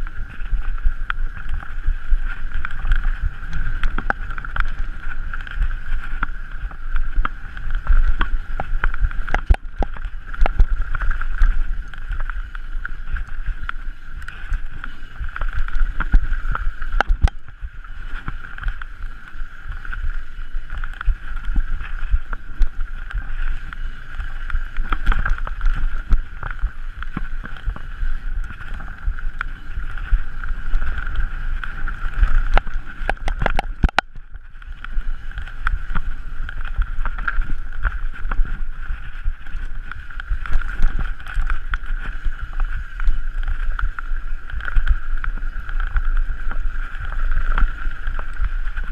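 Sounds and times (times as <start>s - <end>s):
bike rattling over rough ground: 0.0s - 48.9s
wind on microphone: 0.0s - 48.9s.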